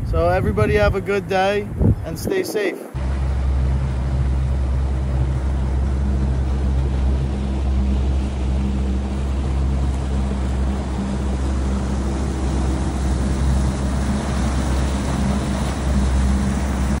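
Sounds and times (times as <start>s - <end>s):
water rushing in wake: 1.0s - 17.0s
outboard motor running: 3.0s - 17.0s.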